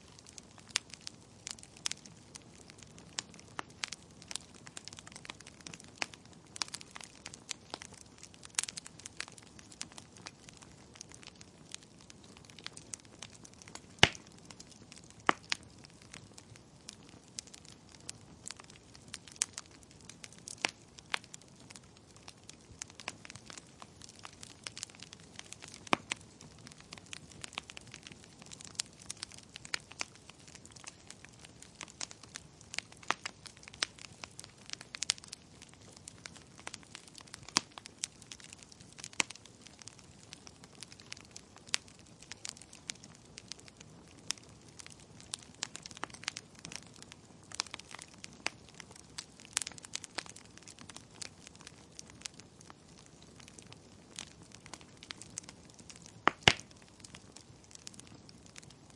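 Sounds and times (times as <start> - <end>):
logs crackling and popping: 0.0 - 58.9.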